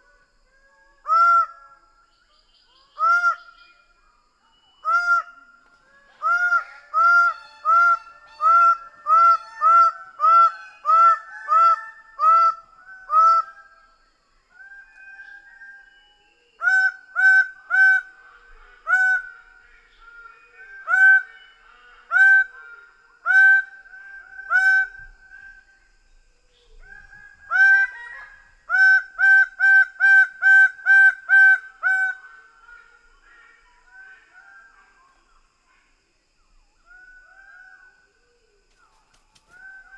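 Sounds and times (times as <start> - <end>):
faint bird calls: 0.0 - 39.9.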